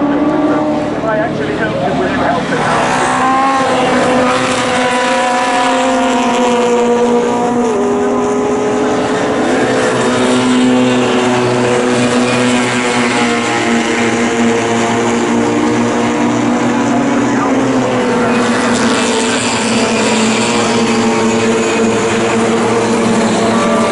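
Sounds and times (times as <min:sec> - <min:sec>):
race car engines running: 0:00.0 - 0:23.9.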